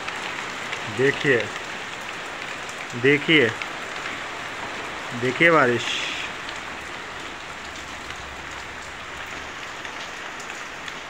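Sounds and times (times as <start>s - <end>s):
heavy rain on a corrugated roof: 0.0s - 11.0s.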